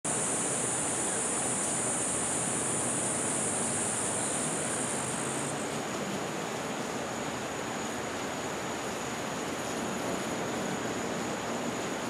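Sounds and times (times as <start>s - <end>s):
cicadas droning: 0.0s - 12.0s
rushing hiss: 0.1s - 12.0s.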